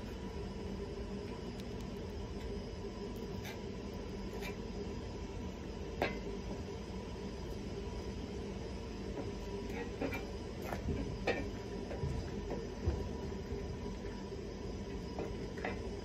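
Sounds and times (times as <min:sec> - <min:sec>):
low rumble with faint hum: 0:00.0 - 0:16.0.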